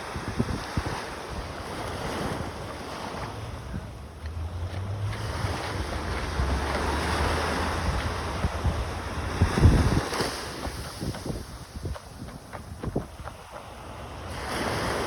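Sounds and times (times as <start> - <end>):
sea waves washing onto beach: 0.0 - 15.0
wind rumbling on microphone: 0.0 - 15.0.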